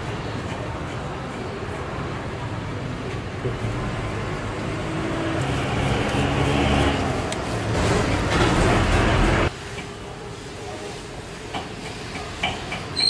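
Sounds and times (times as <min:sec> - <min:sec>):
street noise rumble and hiss: 0:00.0 - 0:13.0.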